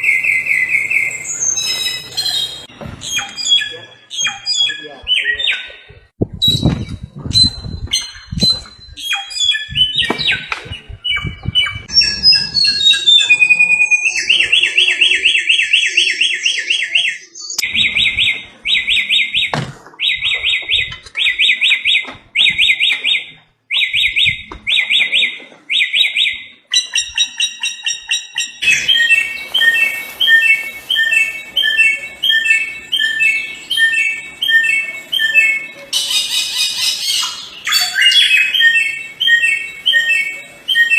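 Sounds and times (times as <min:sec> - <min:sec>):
songbird whistles and trills: 0:06.4 - 0:40.9.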